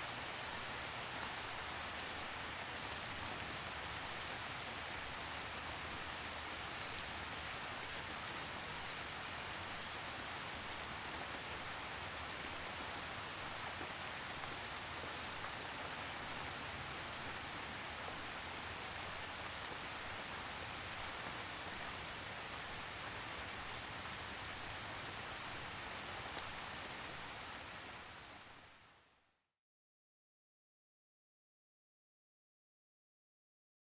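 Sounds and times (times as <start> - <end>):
gentle rain falling: 0.0 - 29.2.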